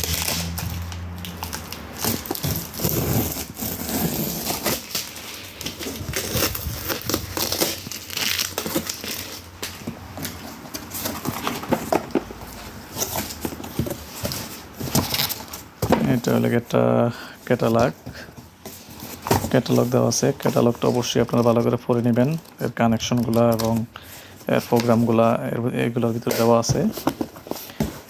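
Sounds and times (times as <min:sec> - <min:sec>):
wrapping crinkling and rustling: 0:00.0 - 0:28.0.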